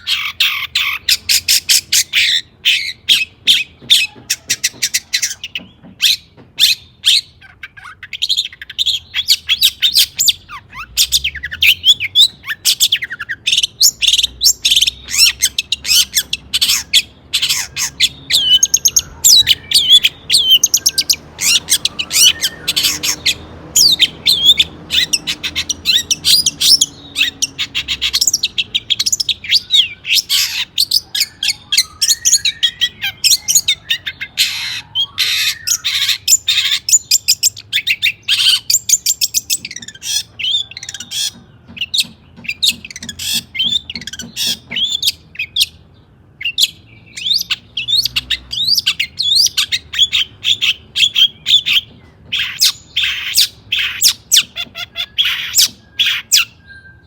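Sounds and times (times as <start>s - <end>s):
bird chirping and squawking: 0.0s - 57.0s.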